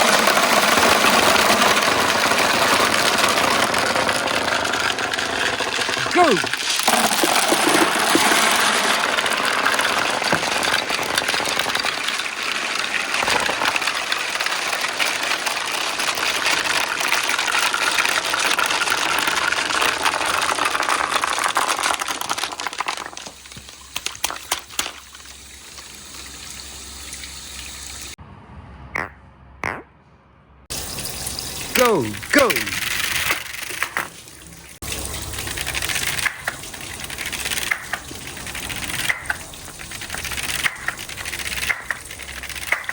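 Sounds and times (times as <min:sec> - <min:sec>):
water rushing down marble run: 0:00.0 - 0:28.2, 0:30.7 - 0:42.9.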